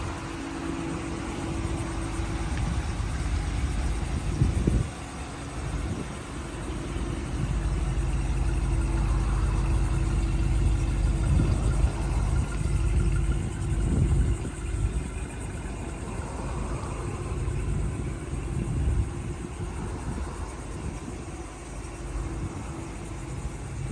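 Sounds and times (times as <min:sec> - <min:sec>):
pickup truck engine idling: 0:00.0 - 0:23.9.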